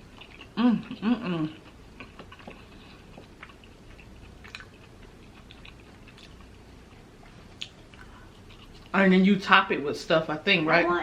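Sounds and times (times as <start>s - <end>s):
faint chewing: 0.0s - 9.8s.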